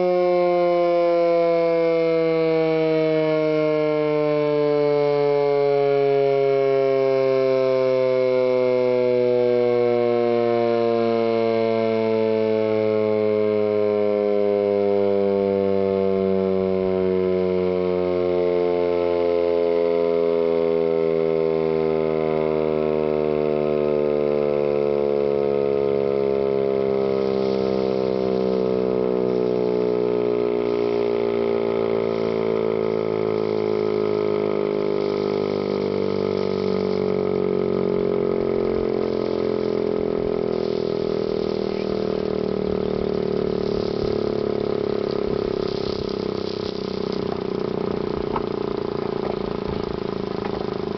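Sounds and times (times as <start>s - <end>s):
warning siren winding down: 0.0s - 50.9s.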